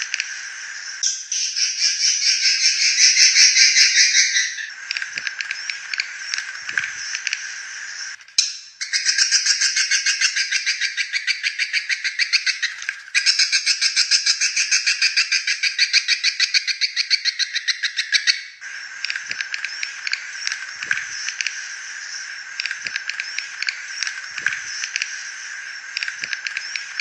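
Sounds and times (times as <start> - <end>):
raspy rapid bird chirps: 0.0 - 27.0.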